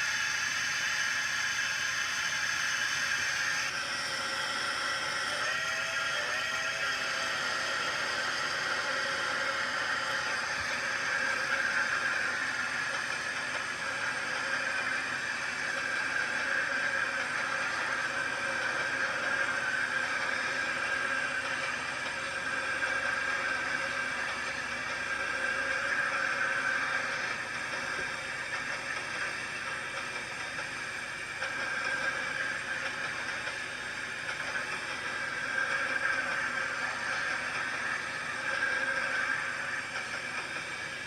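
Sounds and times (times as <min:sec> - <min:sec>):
train hiss and rumble: 0:00.0 - 0:41.0.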